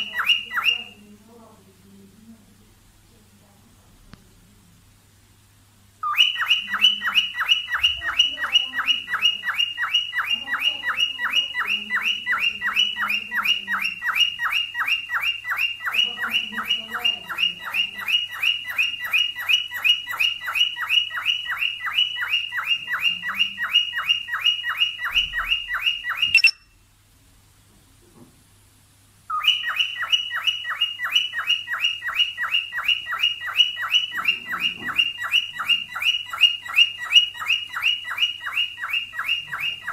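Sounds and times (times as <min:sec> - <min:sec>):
cockatiel chirping: 0:00.0 - 0:01.0, 0:06.0 - 0:26.8, 0:29.3 - 0:39.9.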